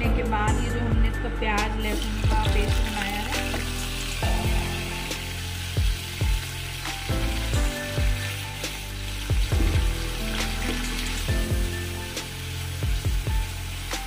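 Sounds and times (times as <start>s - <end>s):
background music with beat: 0.0s - 14.0s
paste sizzling in hot oil: 1.9s - 14.0s.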